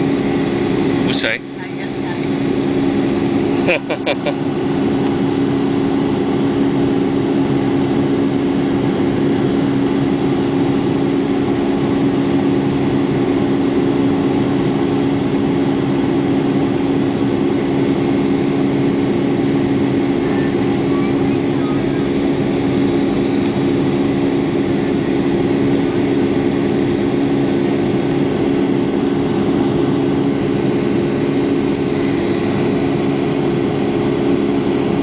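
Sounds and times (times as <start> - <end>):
jet engine roar inside cabin: 0.0 - 35.0.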